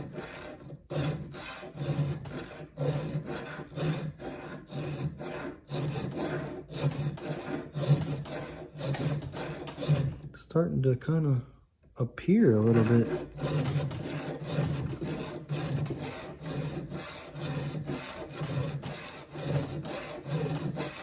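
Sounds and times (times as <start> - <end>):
file rasping on chainsaw chain: 0.0 - 10.3, 12.6 - 21.0.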